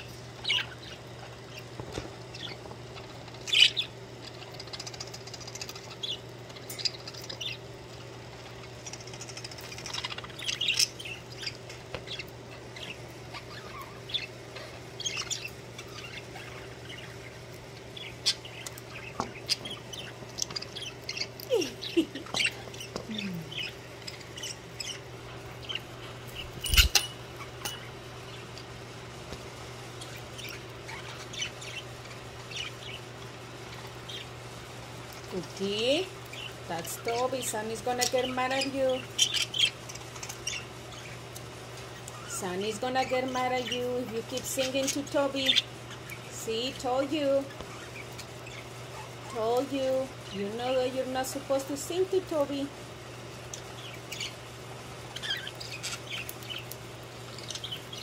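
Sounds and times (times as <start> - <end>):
budgerigars chirping: 0.0 - 1.7, 3.4 - 7.6, 9.0 - 28.7, 30.0 - 31.9, 32.5 - 34.3, 35.9 - 41.2, 41.9 - 50.5, 53.8 - 54.4, 55.1 - 58.0
steady low hum: 0.0 - 58.0.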